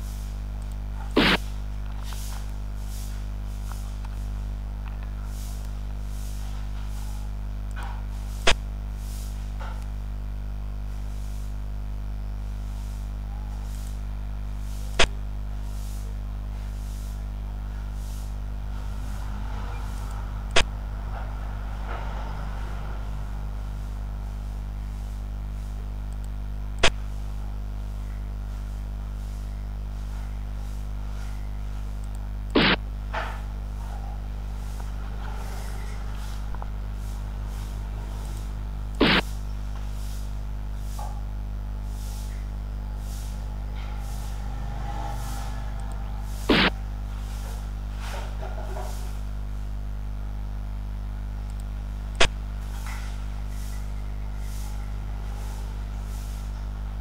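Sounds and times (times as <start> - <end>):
steady low drone: 0.0 - 49.7, 51.5 - 57.0.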